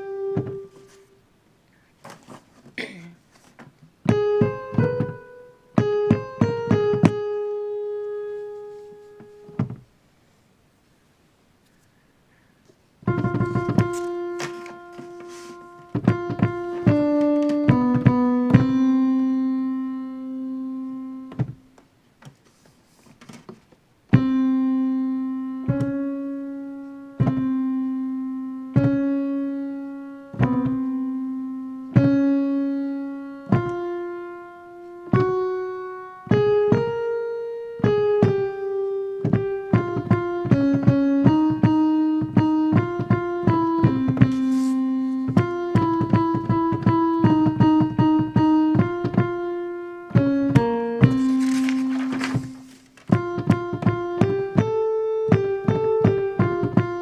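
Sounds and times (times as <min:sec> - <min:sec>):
piano melody: 0:00.0 - 0:01.2, 0:04.0 - 0:09.8, 0:13.0 - 0:21.8, 0:24.0 - 0:57.0.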